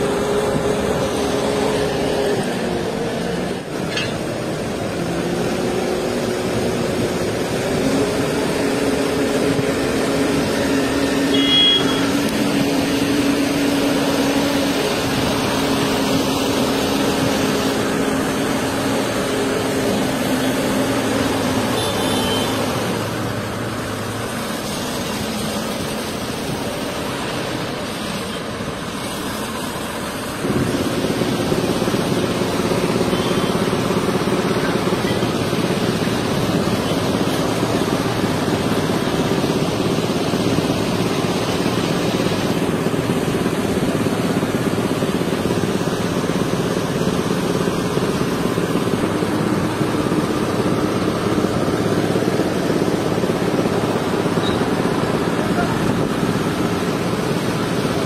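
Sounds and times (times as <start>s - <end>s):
crane diesel engine running: 0.0s - 58.0s.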